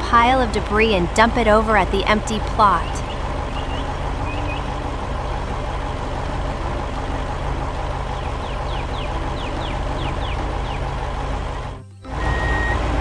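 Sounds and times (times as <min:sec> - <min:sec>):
construction machine engine humming: 0:00.0 - 0:13.0
high falling chirps: 0:00.0 - 0:13.0.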